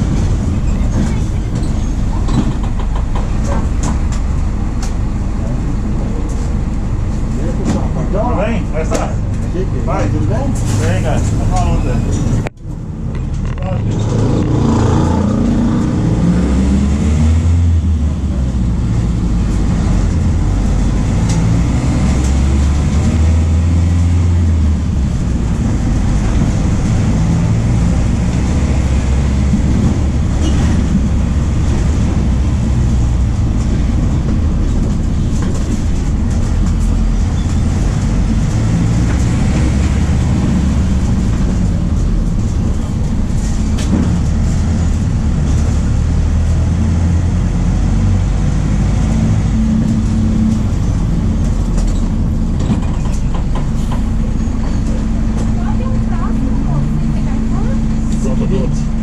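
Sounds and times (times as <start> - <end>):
bus body clatter: 0.0 - 14.2, 18.0 - 47.2, 48.1 - 59.0
bus diesel engine drone: 0.0 - 59.0.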